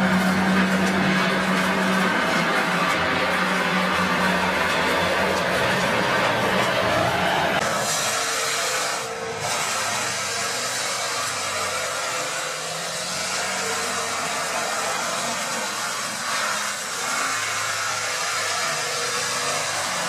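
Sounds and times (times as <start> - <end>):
mulcher shredding wood: 0.0 - 20.0
tractor engine under load: 0.0 - 20.0.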